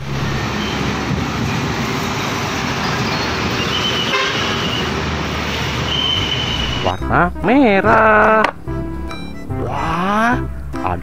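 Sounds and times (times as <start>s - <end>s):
motorcycles passing: 0.0s - 11.0s
traffic noise: 0.0s - 11.0s
truck passing: 0.0s - 11.0s.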